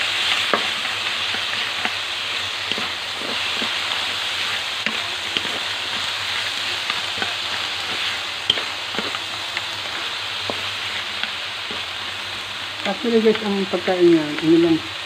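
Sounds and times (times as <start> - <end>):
wooden spatula clicking and scraping: 0.0 - 14.9
shellfish and vegetables sizzling: 0.0 - 15.0.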